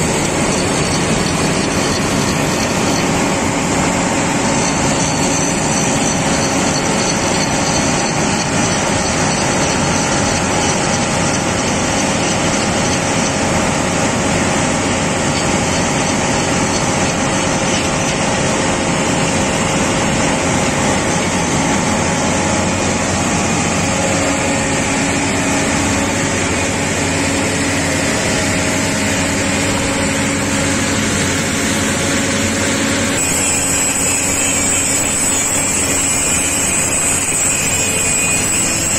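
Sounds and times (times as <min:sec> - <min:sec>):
machine power unit humming: 0:00.0 - 0:38.9.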